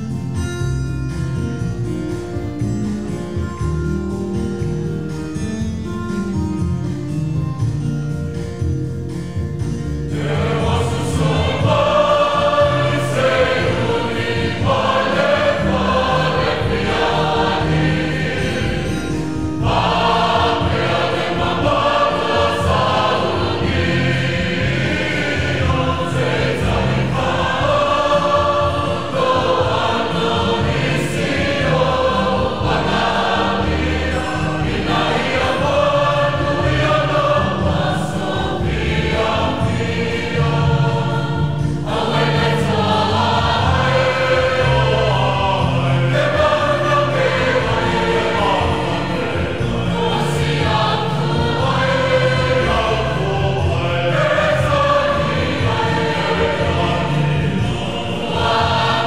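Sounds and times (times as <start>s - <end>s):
church choir singing: 0.0s - 59.0s
instrumental accompaniment: 0.0s - 59.0s.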